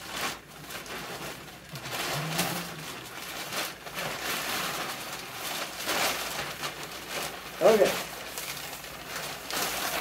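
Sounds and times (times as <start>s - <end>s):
plastic trash bag rustling: 0.0s - 10.0s.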